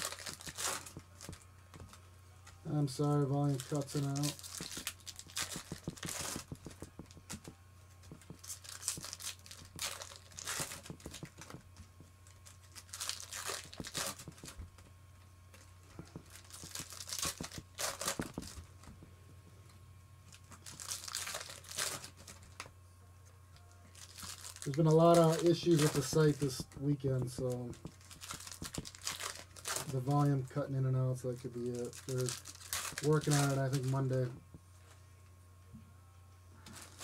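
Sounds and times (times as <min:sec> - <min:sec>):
foil wrappers crinkling and tearing: 0:00.0 - 0:02.0, 0:02.7 - 0:14.9, 0:15.5 - 0:19.0, 0:20.3 - 0:22.7, 0:23.9 - 0:34.4, 0:36.6 - 0:37.0
cards being handled: 0:00.0 - 0:14.9, 0:15.5 - 0:19.1, 0:20.3 - 0:22.7, 0:23.9 - 0:30.5, 0:31.5 - 0:34.5
low steady hum: 0:00.0 - 0:37.0.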